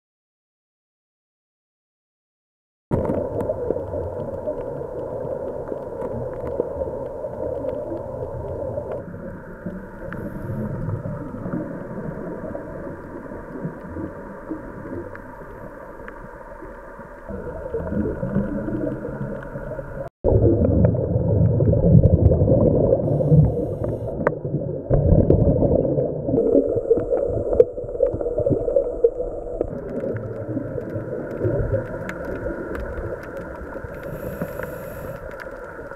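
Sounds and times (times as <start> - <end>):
underwater rumble and gurgling: 2.9 - 35.9.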